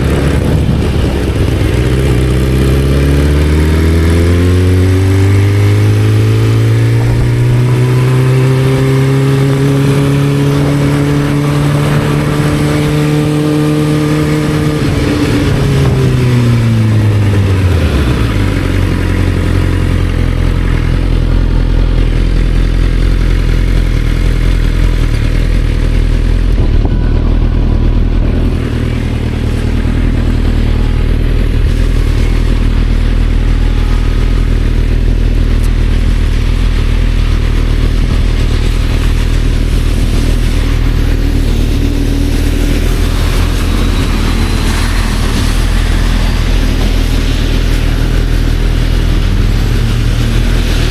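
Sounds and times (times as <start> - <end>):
motorcycle engine: 0.0 - 50.9.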